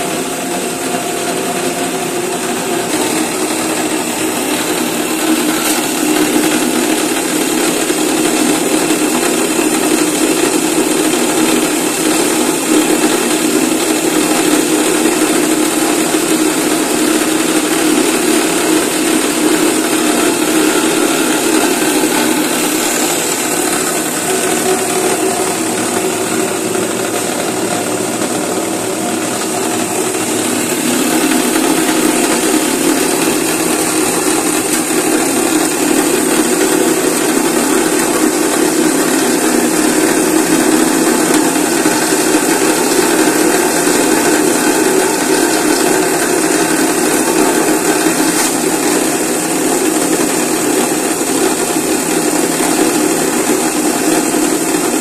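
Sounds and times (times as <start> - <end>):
grinder machine whirring: 0.0 - 55.0.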